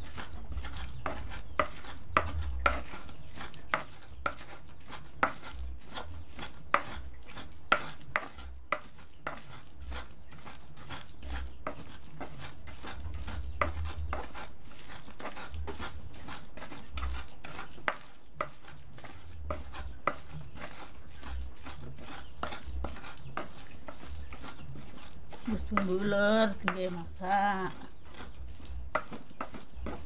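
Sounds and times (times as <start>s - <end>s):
pestle grinding in a mortar: 0.0s - 30.0s.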